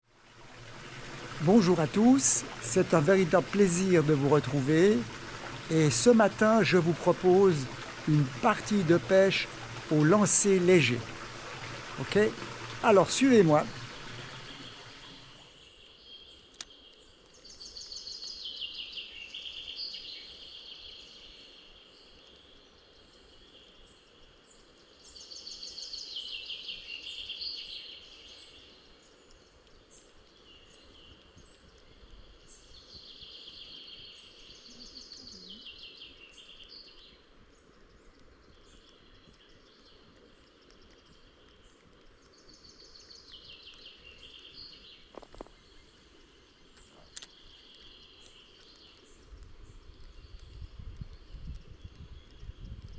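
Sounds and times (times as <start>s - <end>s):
faint background hiss: 0.2s - 52.9s
songbird singing: 0.7s - 52.9s.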